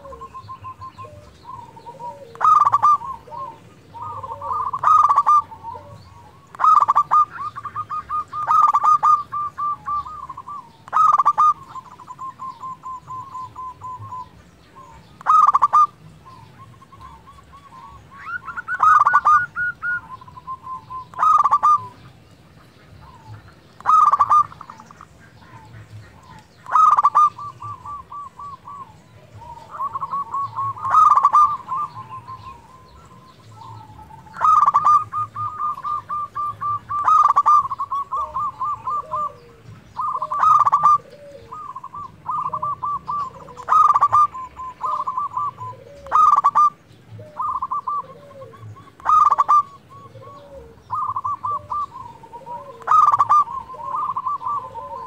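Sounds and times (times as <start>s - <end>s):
dove cooing trill: 0.0s - 55.0s.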